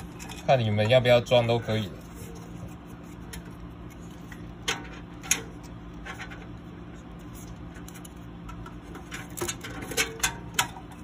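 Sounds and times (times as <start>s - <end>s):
low steady hum: 0.0s - 11.0s
hands scratching plastic fan: 0.9s - 10.8s.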